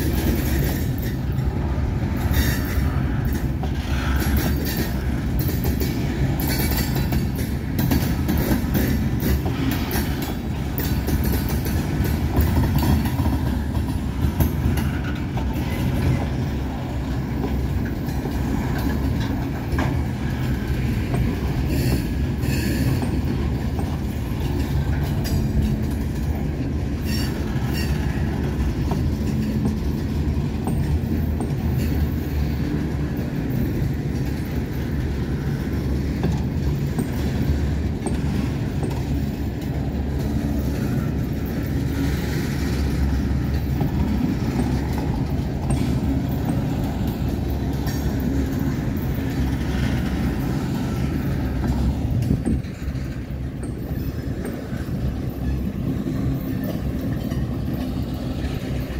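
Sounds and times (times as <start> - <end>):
train wheels rumbling on rails: 0.0 - 58.9
wheels clacking over rail joints: 0.0 - 58.9.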